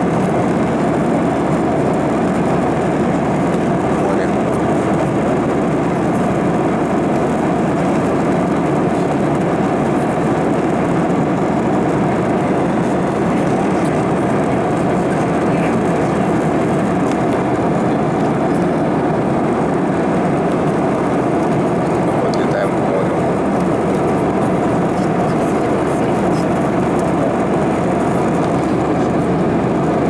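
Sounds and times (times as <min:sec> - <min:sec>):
moving vehicle rumble: 0:00.0 - 0:30.0.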